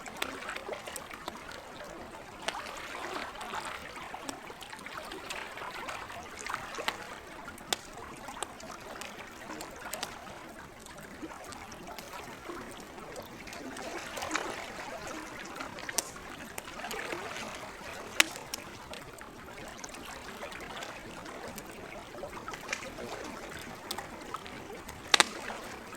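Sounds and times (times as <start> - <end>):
campfire crackling and popping: 0.0 - 25.9
water lapping and trickling: 0.0 - 25.9.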